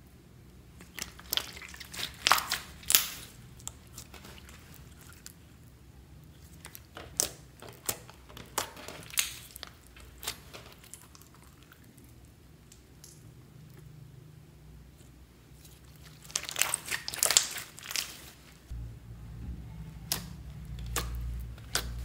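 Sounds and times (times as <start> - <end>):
slime squishing: 0.6 - 14.2, 14.8 - 18.8, 19.6 - 22.0.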